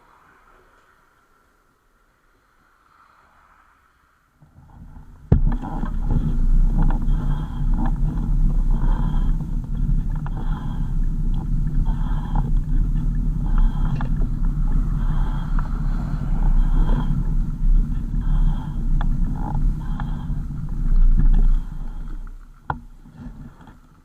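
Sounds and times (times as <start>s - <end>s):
road noise: 0.0s - 24.0s
vehicle engine rumble: 4.3s - 24.0s.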